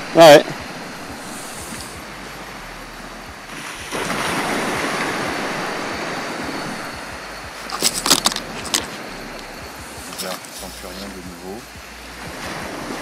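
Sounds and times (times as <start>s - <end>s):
waves breaking on shore: 0.0s - 13.0s.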